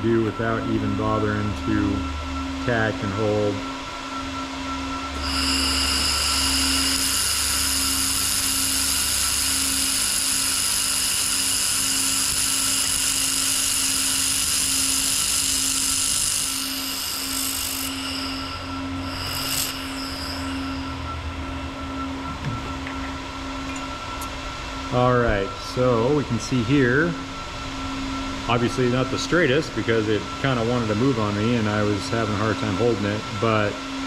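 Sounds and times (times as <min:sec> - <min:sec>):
cooling fan hum: 0:00.0 - 0:34.0
laser welder high-pitched whine: 0:00.0 - 0:34.0.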